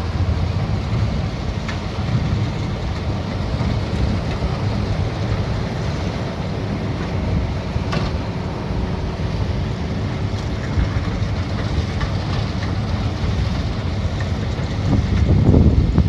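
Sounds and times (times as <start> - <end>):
combine harvester rumbling: 0.0 - 16.0.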